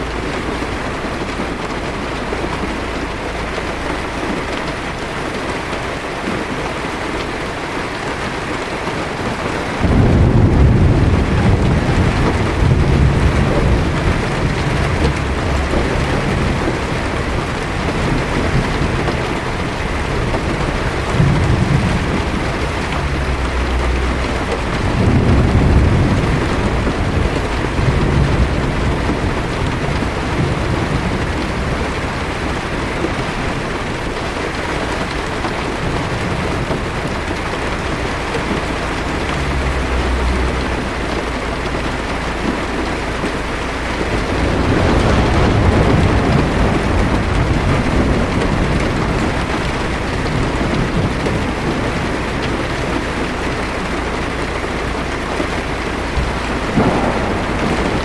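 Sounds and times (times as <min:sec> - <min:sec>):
heavy rain on car roof: 0:00.0 - 0:58.0
low rumble of thunder: 0:00.0 - 0:58.0.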